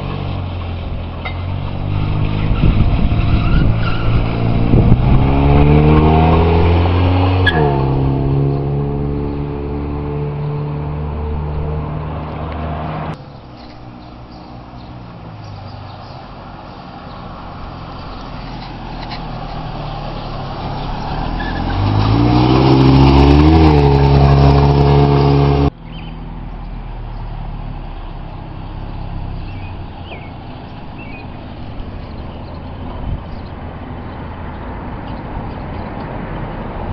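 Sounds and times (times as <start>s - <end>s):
car engine accelerating: 0.0s - 16.2s, 17.1s - 36.9s.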